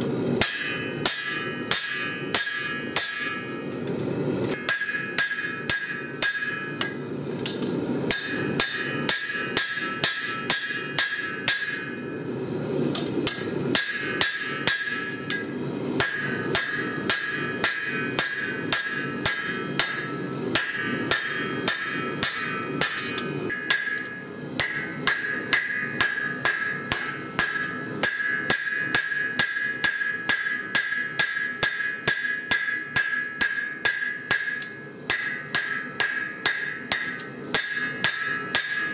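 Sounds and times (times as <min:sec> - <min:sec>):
hammer striking hot steel: 0:00.0 - 0:38.9
anvil ringing: 0:00.4 - 0:03.8, 0:04.5 - 0:07.0, 0:08.1 - 0:12.3, 0:13.2 - 0:38.9.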